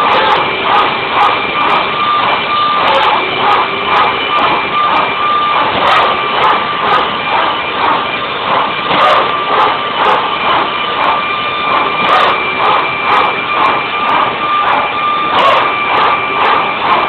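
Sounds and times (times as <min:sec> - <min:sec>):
aircraft machinery whine: 0:00.0 - 0:17.0.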